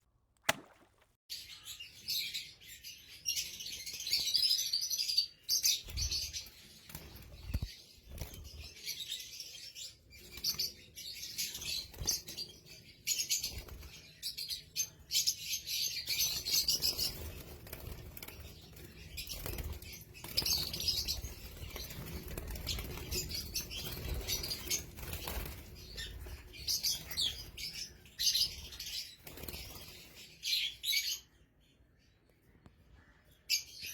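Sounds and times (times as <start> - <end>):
birds twittering and squeaking: 1.4 - 33.9.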